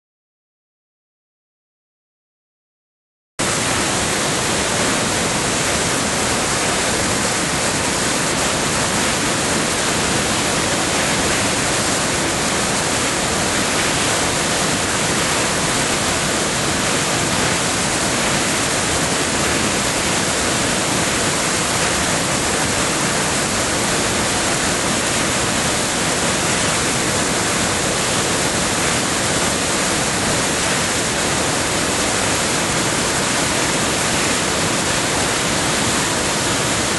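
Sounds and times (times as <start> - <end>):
creek water rushing over rocks: 3.4 - 36.9.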